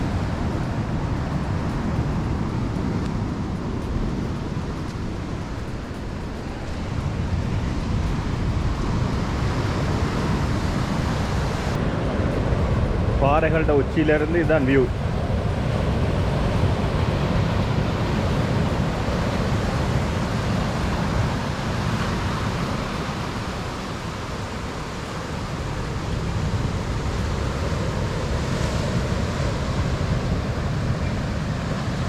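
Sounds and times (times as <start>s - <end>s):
ocean surf: 0.0s - 32.0s
wind rumbling on microphone: 0.0s - 32.0s.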